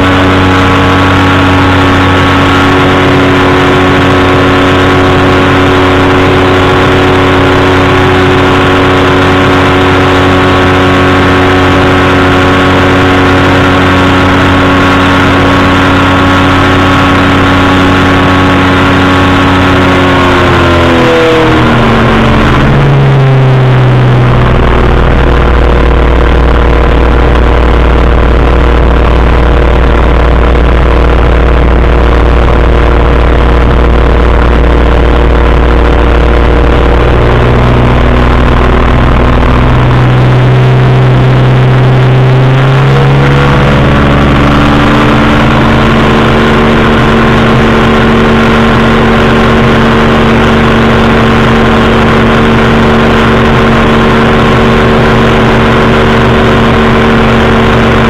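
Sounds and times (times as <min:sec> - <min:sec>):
engine and propeller in flight: 0:00.0 - 0:58.0.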